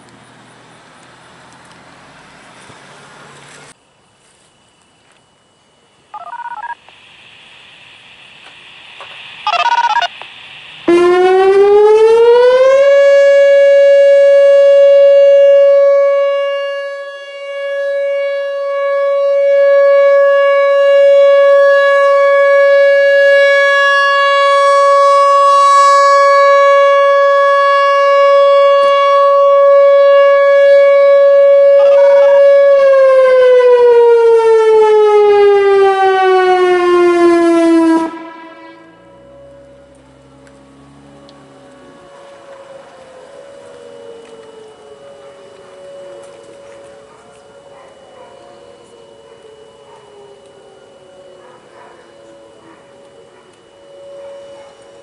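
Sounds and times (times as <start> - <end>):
electronic warning siren: 4.5 - 55.0.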